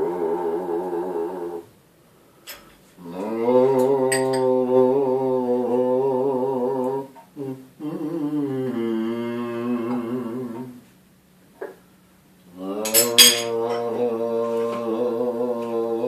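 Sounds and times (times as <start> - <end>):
man humming a slow melody: 0.0 - 1.7, 3.0 - 11.0, 12.5 - 16.0.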